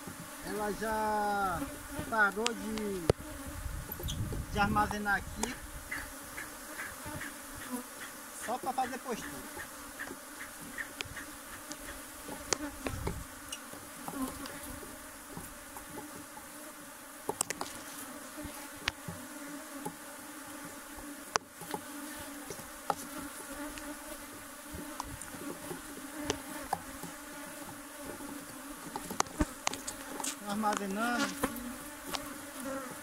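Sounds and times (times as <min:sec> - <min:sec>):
honey bees buzzing: 0:00.0 - 0:33.0.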